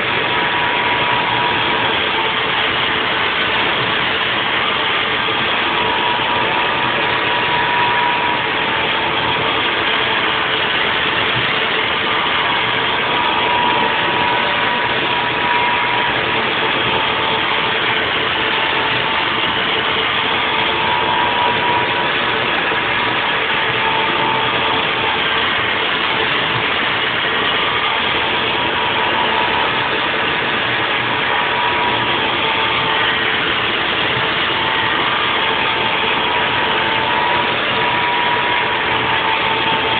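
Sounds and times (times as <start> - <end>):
higher machine tone: 0.0 - 39.9
milling machine cutting: 0.0 - 39.9.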